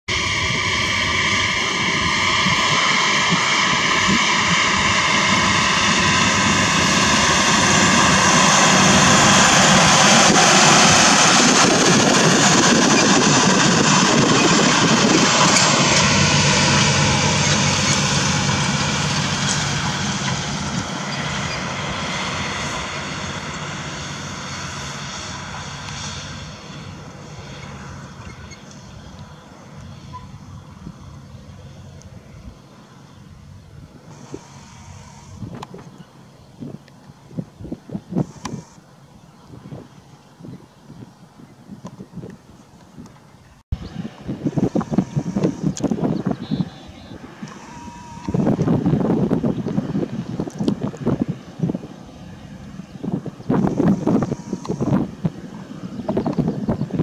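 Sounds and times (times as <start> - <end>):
tractor diesel engine under load: 0.0 - 40.1, 42.3 - 57.0.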